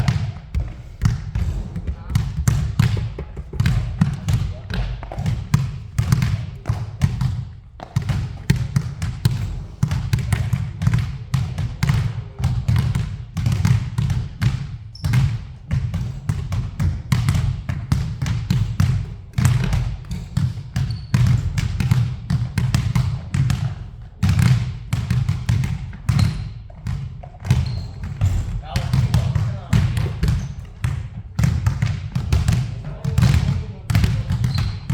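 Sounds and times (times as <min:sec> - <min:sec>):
basketball bouncing on court floor: 0:00.0 - 0:34.9.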